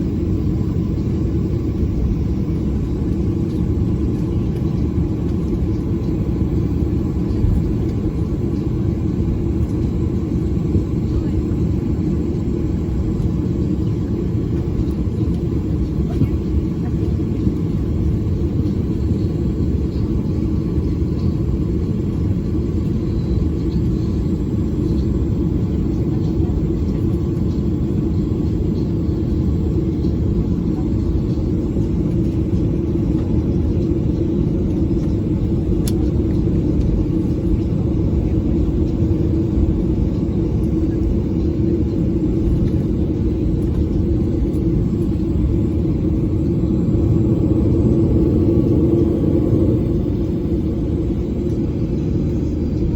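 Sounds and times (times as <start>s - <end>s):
airplane engines rumbling in cabin: 0.0s - 52.9s.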